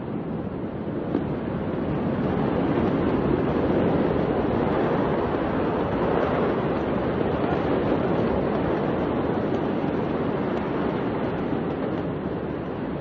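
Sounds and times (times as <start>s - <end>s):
roar of large fire: 0.0s - 13.0s.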